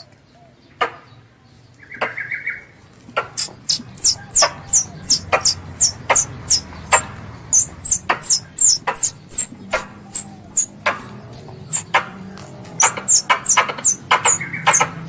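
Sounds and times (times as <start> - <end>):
squirrel chipping calls: 1.8 - 15.0.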